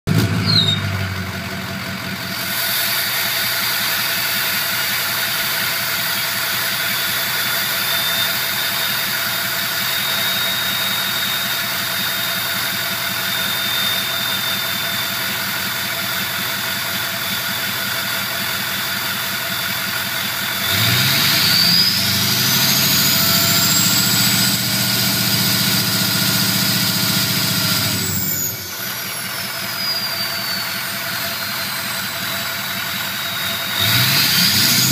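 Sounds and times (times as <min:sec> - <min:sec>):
diesel engine idling and revving: 0:00.0 - 0:34.9
high turbo whistle: 0:02.2 - 0:34.9.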